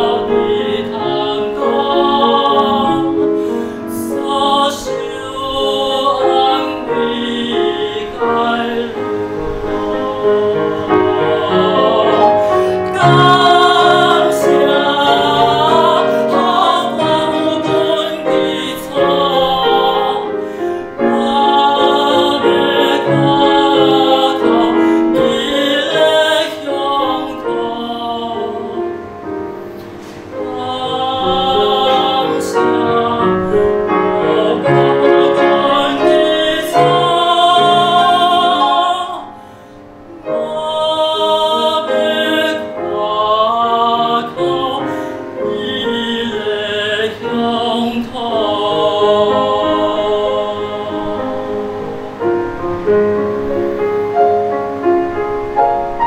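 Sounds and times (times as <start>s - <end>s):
man singing operatically: 0.0s - 29.2s, 30.3s - 39.5s, 40.2s - 52.2s
grand piano accompaniment: 0.0s - 56.0s.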